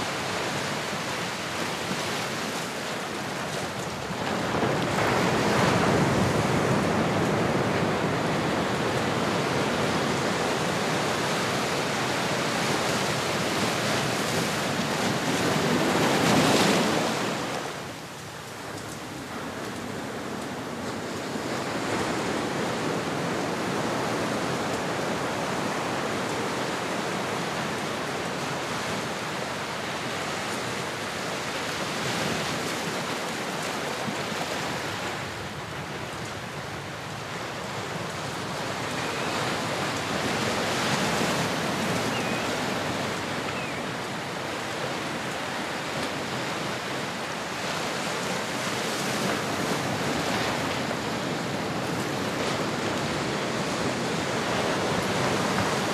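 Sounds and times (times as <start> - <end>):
ocean waves washing on shore: 0.0 - 55.9.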